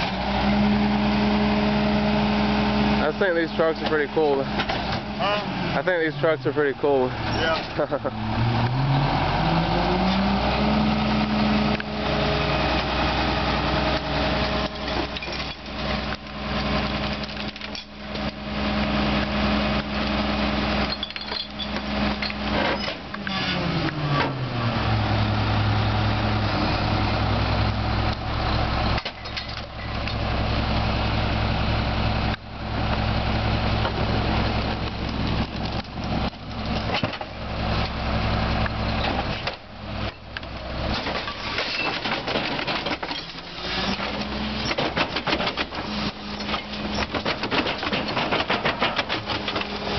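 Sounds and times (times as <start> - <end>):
garbage truck diesel engine revving: 0.0 - 49.9.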